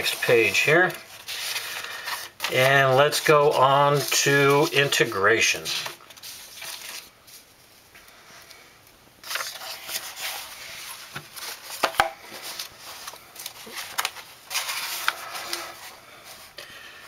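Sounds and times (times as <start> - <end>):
paper rustling: 0.0 - 7.6, 9.2 - 16.8.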